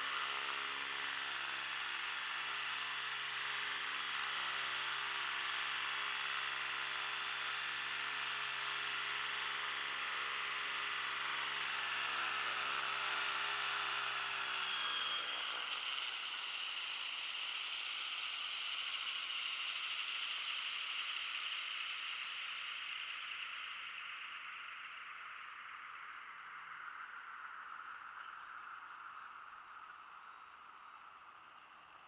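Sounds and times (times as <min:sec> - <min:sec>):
model helicopter motor and rotors whirring: 0:00.0 - 0:32.0.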